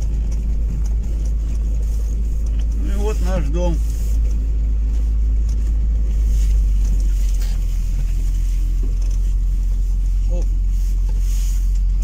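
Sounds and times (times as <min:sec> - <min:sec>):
car rumble from inside cabin: 0:00.0 - 0:12.0.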